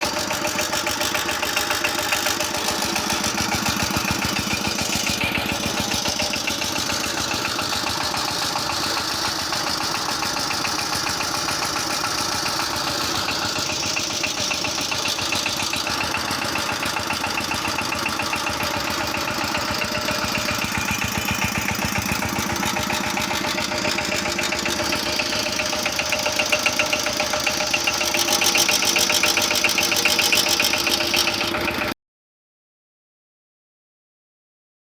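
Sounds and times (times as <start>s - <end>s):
diesel engine knocking: 0.0s - 32.0s.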